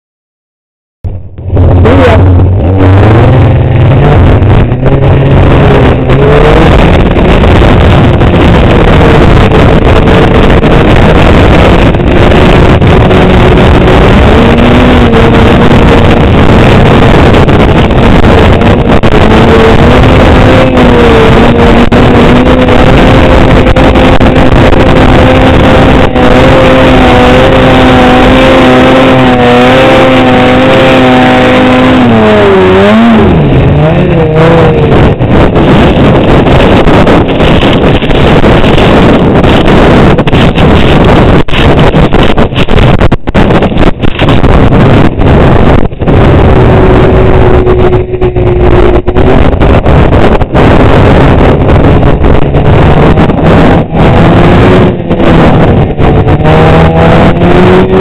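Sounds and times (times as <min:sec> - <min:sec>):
snowmobile engine at high revs: 0:01.3 - 0:58.0.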